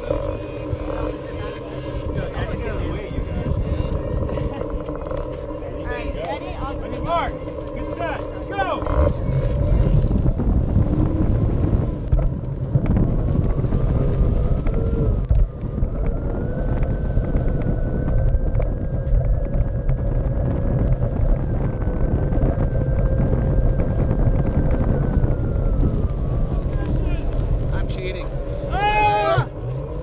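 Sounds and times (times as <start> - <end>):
tyre rumbling over grass: 0.0 - 30.0
wind on microphone: 0.0 - 30.0.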